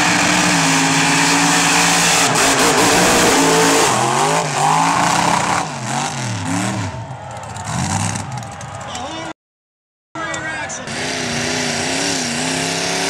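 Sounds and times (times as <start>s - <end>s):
truck engine revving: 0.0s - 8.6s, 10.7s - 13.0s.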